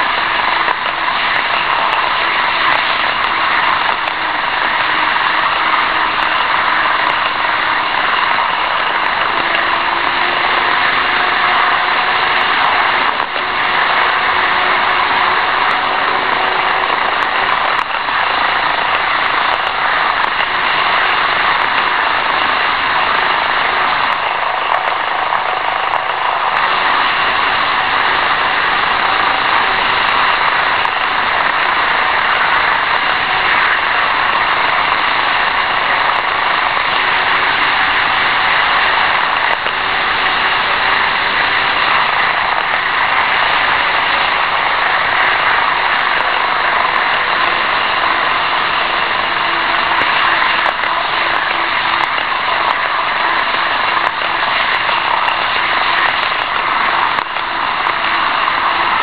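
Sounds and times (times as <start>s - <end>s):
model trains whirring: 0.0s - 59.0s.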